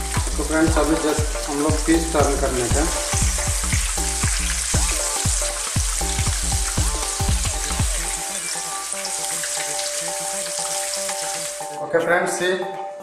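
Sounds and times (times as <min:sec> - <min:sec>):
fish sizzling in hot oil: 0:00.0 - 0:11.8.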